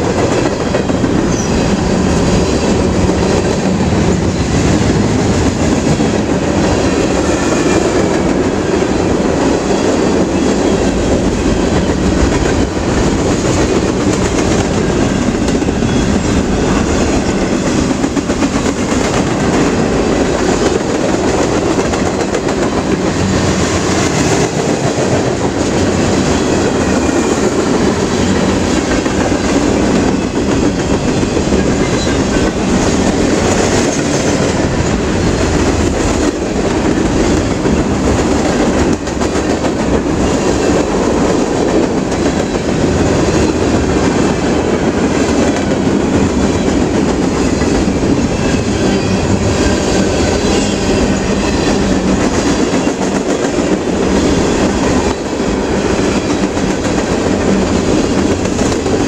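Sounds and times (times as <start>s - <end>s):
train wheels clattering over rail joints: 0.0s - 59.0s.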